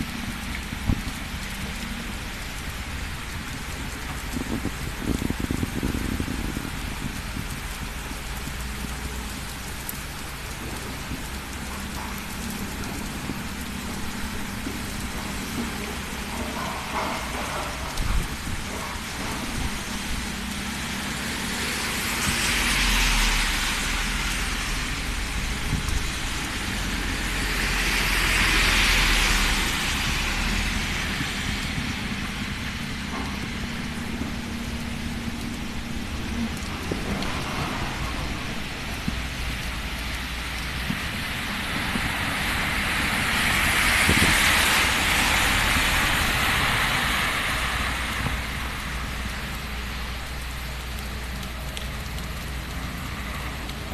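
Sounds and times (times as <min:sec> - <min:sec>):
low rumble: 0:00.0 - 0:53.8
heavy rain falling: 0:00.0 - 0:53.9.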